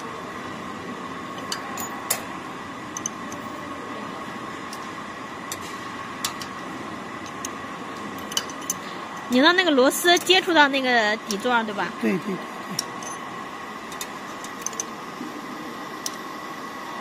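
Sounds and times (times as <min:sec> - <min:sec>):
machinery hum with high whine: 0:00.0 - 0:17.0.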